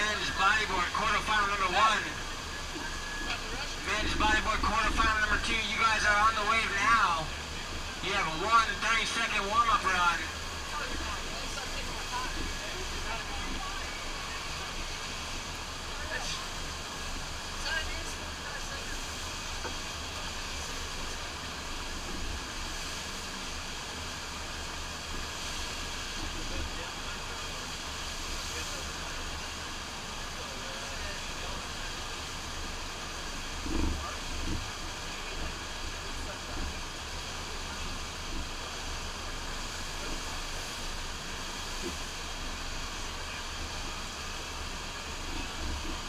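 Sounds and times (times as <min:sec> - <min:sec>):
rushing water of wave machine: 0:00.0 - 0:46.0.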